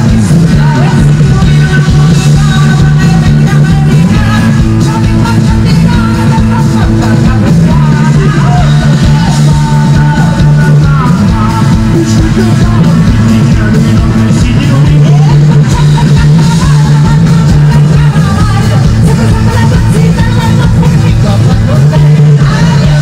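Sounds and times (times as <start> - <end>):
live rock band playing: 0.0 - 23.0
woman singing lead: 0.0 - 23.0.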